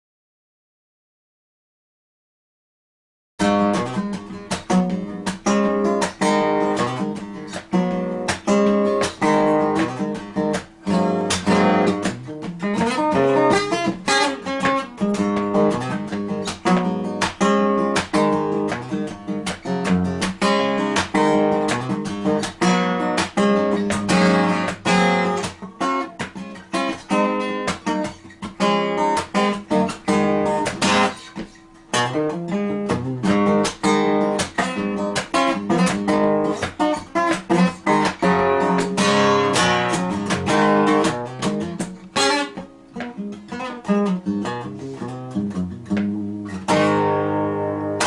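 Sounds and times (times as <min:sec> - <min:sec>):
acoustic guitar playing: 0:03.4 - 0:48.0.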